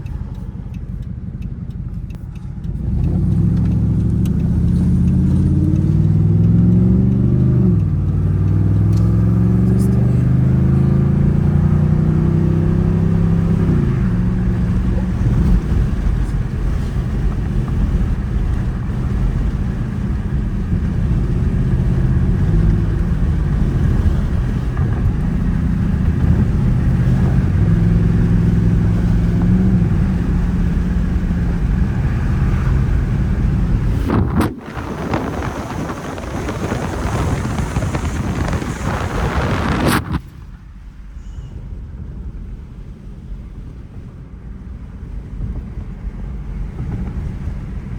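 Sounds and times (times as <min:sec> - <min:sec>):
car engine accelerating: 0:00.0 - 0:47.9
rushing wind noise: 0:02.6 - 0:47.9.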